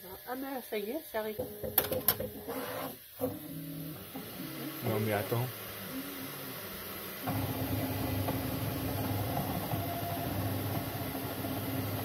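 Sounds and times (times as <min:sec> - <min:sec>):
printer motors humming: 0:01.4 - 0:12.0.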